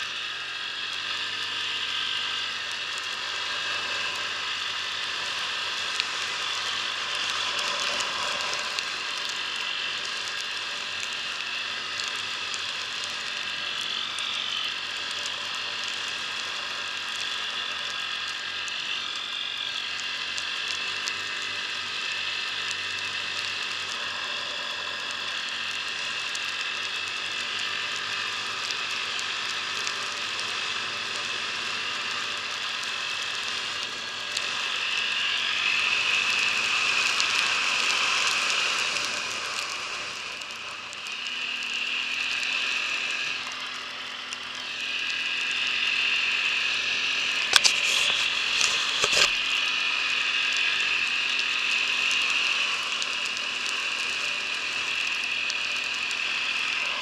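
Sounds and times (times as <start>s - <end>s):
atv engine running: 0.0s - 57.0s
small clicks: 5.2s - 57.0s.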